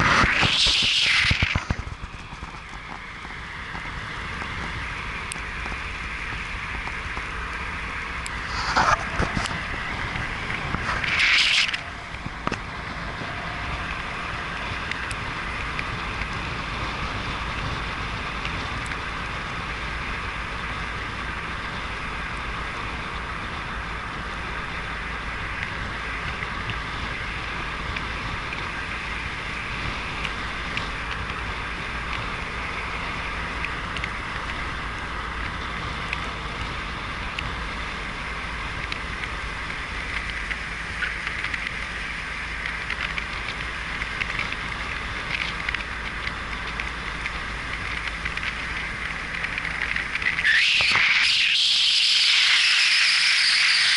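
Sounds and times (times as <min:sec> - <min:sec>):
car engine and tyre noise: 0:00.0 - 0:53.9.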